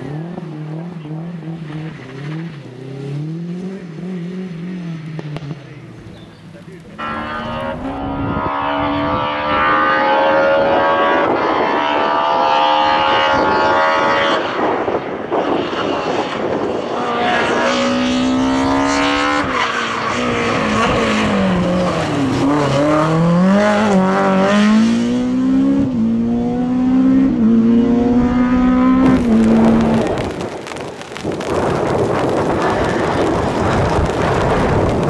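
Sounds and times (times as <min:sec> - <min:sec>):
rally car engine at full throttle: 0:00.0 - 0:35.0.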